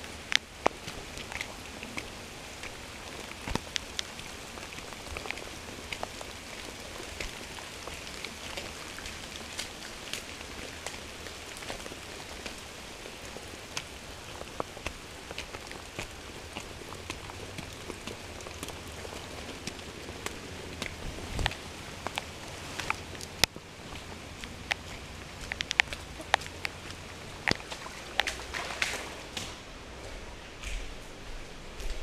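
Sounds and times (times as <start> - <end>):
steady rain falling: 0.0 - 32.0
sharp drips and taps: 0.2 - 29.5.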